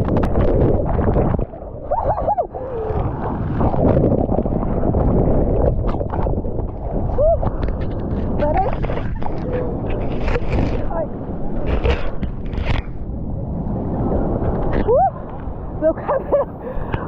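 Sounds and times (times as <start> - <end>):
muffled underwater wave rush: 0.0 - 17.0.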